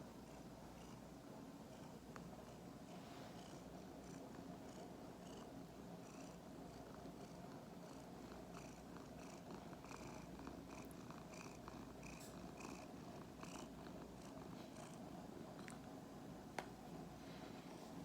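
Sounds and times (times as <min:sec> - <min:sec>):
cat purring: 0:00.1 - 0:16.2.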